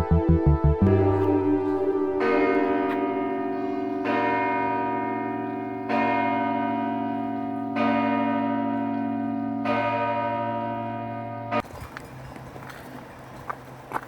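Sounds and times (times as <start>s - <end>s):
church bell tolling: 0.1s - 11.7s.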